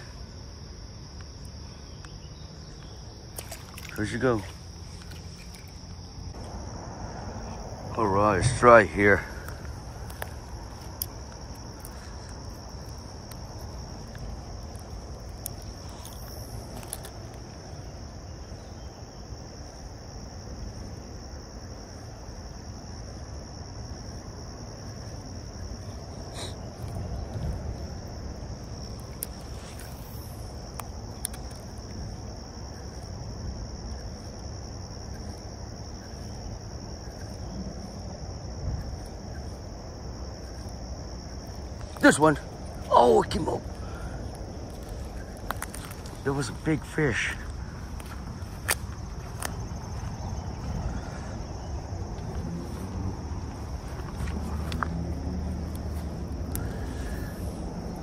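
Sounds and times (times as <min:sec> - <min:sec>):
creek and wind rushing: 0:00.0 - 0:58.0
insects trilling: 0:00.0 - 0:58.0.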